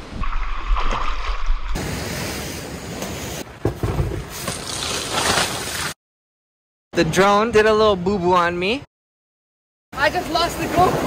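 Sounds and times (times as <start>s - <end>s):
wind: 0.0s - 6.0s, 6.9s - 8.9s, 9.9s - 11.0s.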